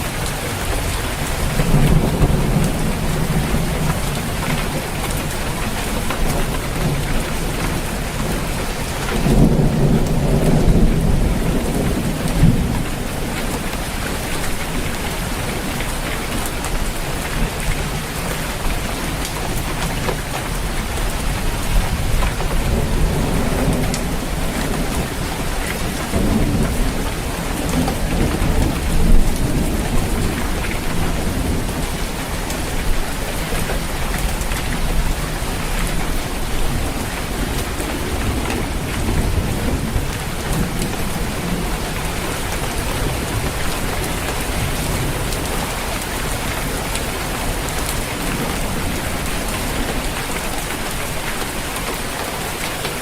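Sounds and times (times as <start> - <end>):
thunder rumbling: 0.0 - 18.3, 20.7 - 51.7
heavy rain on a roof: 0.0 - 53.0.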